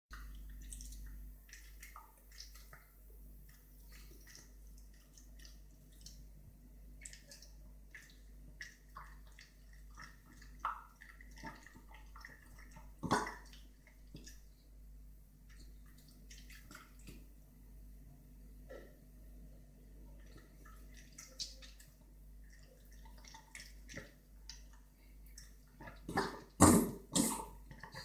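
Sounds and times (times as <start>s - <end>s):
dog wet clicking and smacking: 0.2s - 14.5s, 15.4s - 17.3s, 20.1s - 26.8s.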